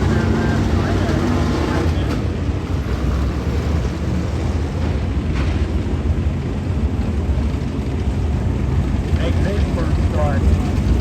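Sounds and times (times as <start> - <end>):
race car engines rumbling: 0.0 - 11.0.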